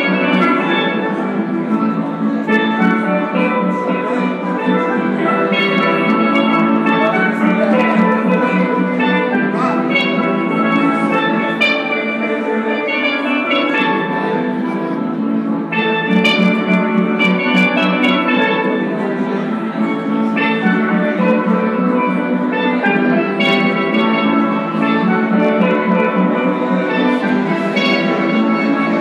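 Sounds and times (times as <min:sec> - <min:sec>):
steel drum band playing: 0:00.0 - 0:29.0.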